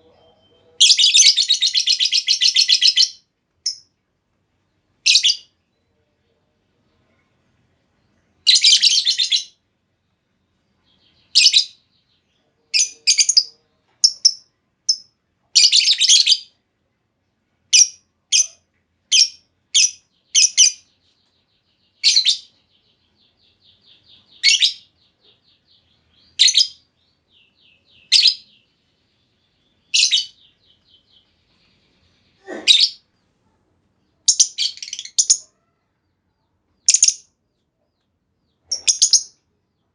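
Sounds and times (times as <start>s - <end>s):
bird high chirps: 0.0s - 3.9s, 5.0s - 5.8s, 8.4s - 9.6s, 10.8s - 16.6s, 17.7s - 39.9s.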